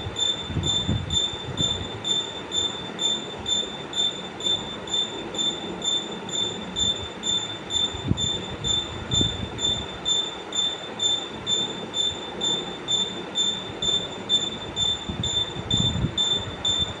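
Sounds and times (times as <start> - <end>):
high-pitched rhythmic squeak: 0.0 - 17.0
low mechanical rumble: 0.0 - 17.0.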